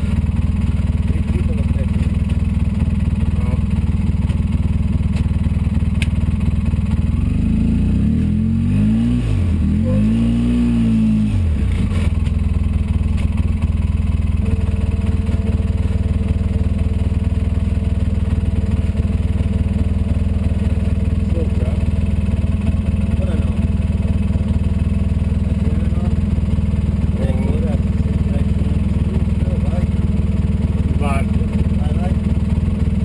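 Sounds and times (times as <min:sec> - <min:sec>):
engine running and revving: 0:00.0 - 0:33.0.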